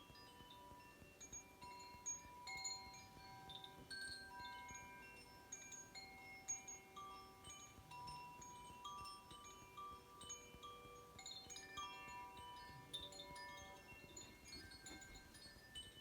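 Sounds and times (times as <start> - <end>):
faint metal chimes ringing: 0.0 - 16.0.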